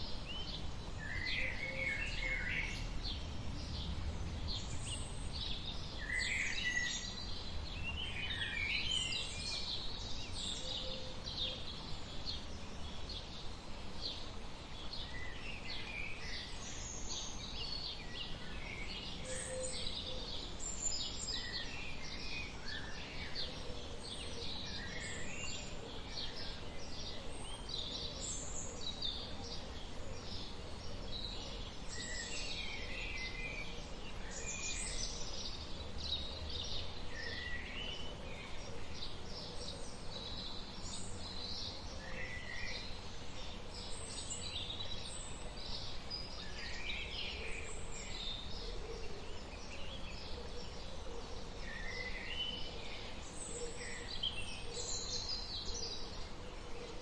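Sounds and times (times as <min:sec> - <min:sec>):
chorus of birds chirping: 0:00.0 - 0:57.0.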